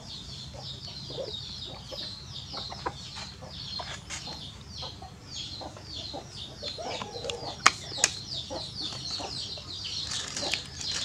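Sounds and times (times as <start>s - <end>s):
chickens clucking: 0.0s - 11.0s
chicks peeping: 0.0s - 11.0s.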